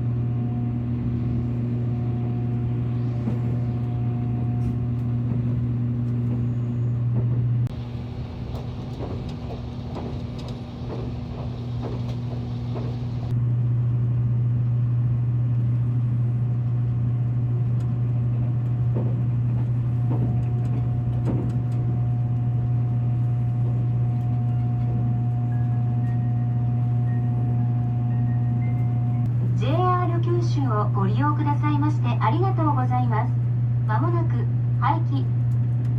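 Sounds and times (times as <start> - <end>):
train interior hum: 0.0 - 35.9
train rumble with knocks: 0.0 - 35.9.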